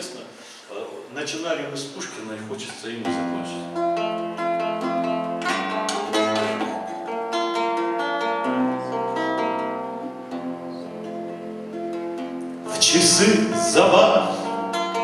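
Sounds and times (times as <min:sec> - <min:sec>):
acoustic guitar playing: 0:02.5 - 0:15.0.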